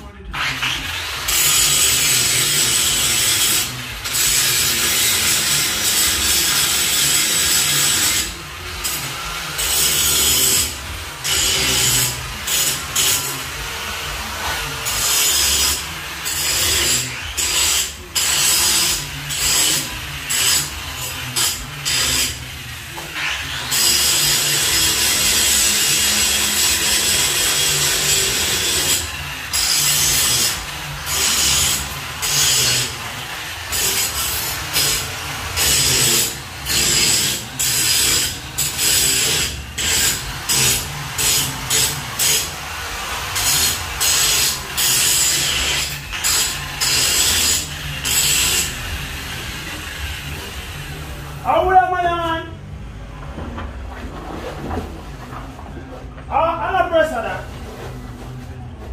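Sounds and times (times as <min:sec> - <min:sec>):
handheld power tool running: 0:00.4 - 0:51.0.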